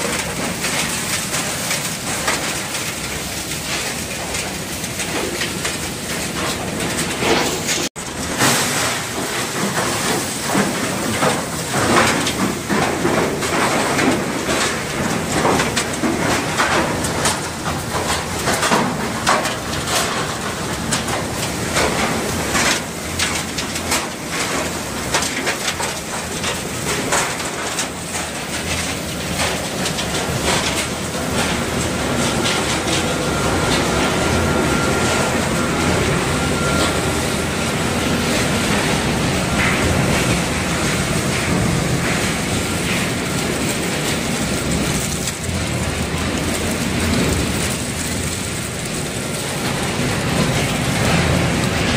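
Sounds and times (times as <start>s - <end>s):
shredder rattling and clattering: 0.0s - 51.9s.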